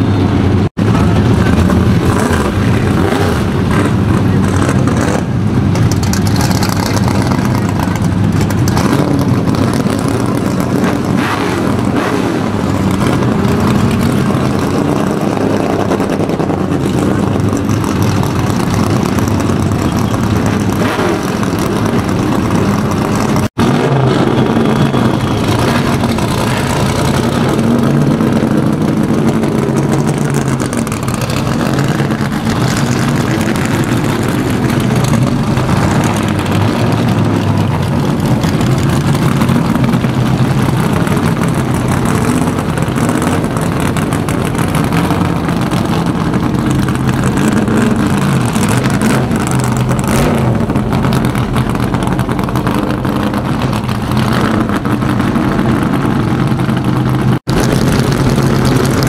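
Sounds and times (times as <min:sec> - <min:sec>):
race car engines rumbling: 0:00.0 - 0:59.0.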